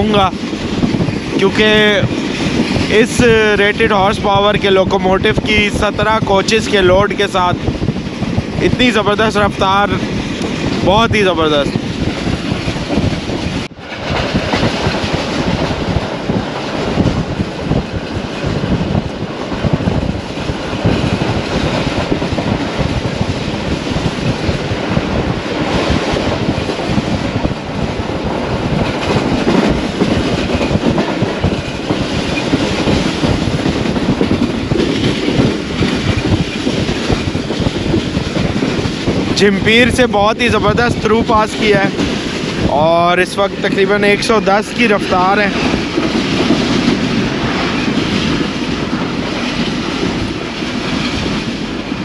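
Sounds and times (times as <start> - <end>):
train rushing noise: 0.0 - 52.0
train wheels clattering: 0.0 - 52.0.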